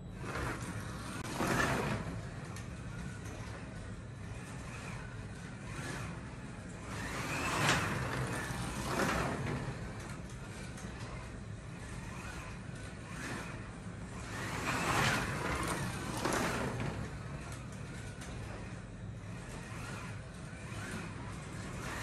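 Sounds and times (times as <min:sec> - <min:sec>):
car rumbling in slot track: 0:00.0 - 0:22.0
slot car motor whirring: 0:00.0 - 0:22.0.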